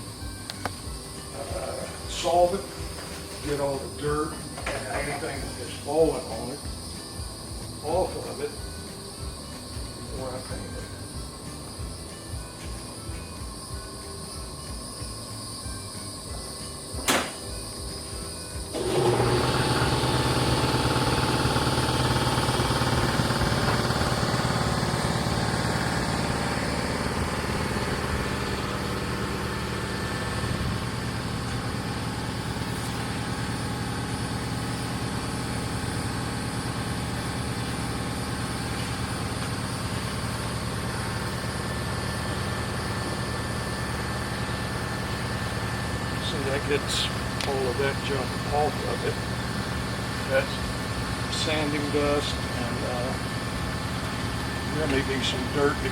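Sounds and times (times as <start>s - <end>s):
air compressor motor hum: 0.0s - 55.9s.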